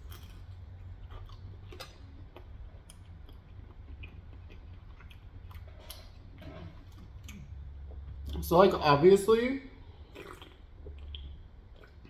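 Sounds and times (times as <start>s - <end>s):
chewing food clicks and crackles: 0.0s - 8.4s, 10.0s - 12.0s
low steady hum: 0.0s - 12.0s.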